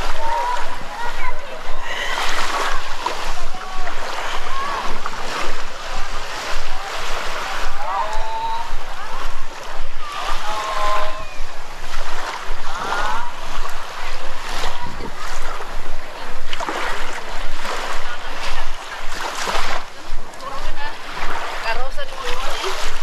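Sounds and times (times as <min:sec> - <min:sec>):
surf washing on sandy beach: 0:00.0 - 0:23.0.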